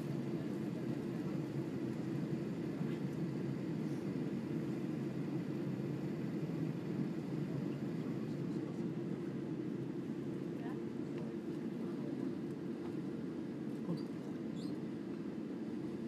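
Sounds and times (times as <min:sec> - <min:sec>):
low rumble in airplane cabin: 0:00.0 - 0:16.0.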